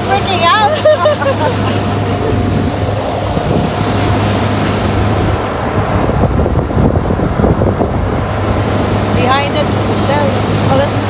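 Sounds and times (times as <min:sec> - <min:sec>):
steady low drone: 0:00.0 - 0:11.0
wind buffeting microphone: 0:00.0 - 0:11.0.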